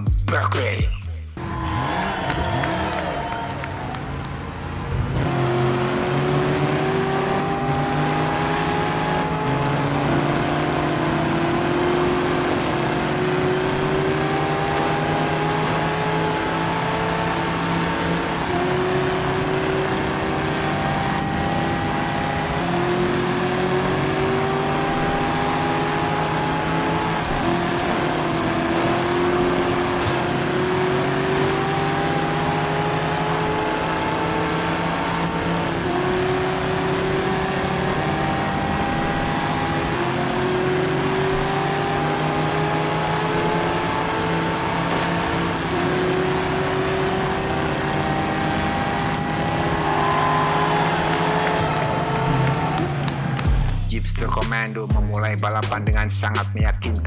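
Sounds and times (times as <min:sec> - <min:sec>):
racing engine drone: 0:00.0 - 0:57.0.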